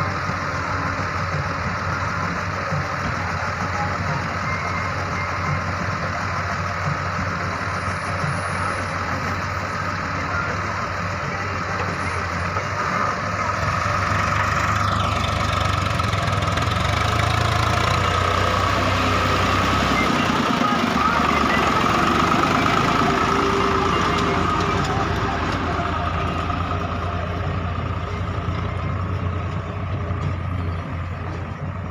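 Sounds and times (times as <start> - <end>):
backhoe diesel engine running: 0.0 - 31.9.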